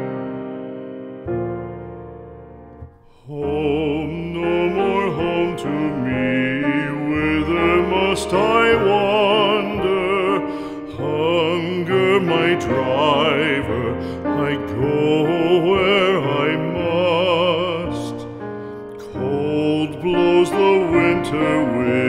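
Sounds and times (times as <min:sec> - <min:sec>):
piano accompaniment: 0:00.0 - 0:22.0
piano chord: 0:00.0 - 0:22.0
person singing with vibrato: 0:03.0 - 0:22.0.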